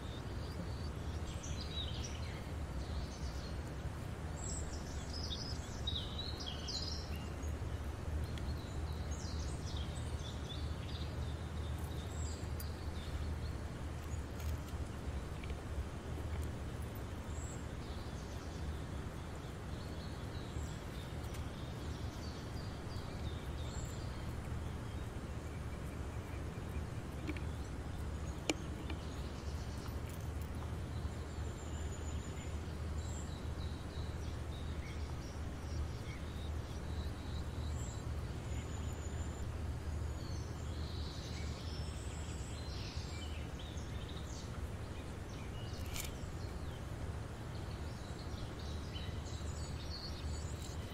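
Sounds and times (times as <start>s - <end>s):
low outdoor rumble: 0.0s - 50.9s
small birds chirping: 0.0s - 50.9s.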